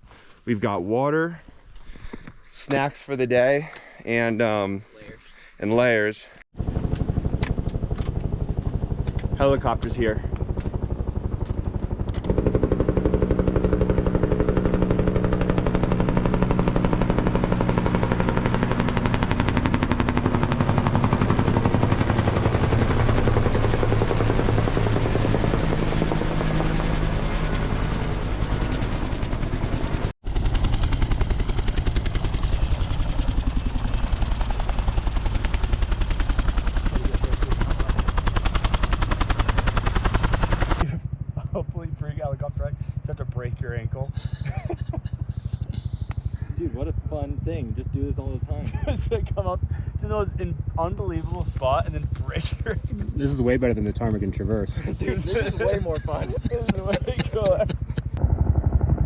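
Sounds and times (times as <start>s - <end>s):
helicopter rotor chopping: 1.4s - 59.0s
helicopter engine whine: 6.6s - 59.0s.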